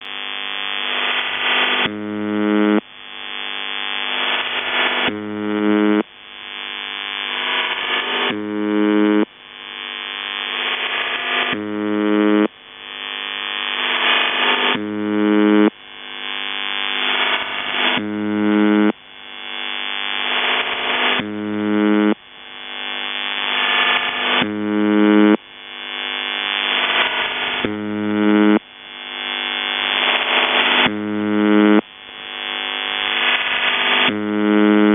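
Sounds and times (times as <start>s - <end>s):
harsh low radio buzz: 0.0s - 34.9s
radio hiss: 0.0s - 34.9s.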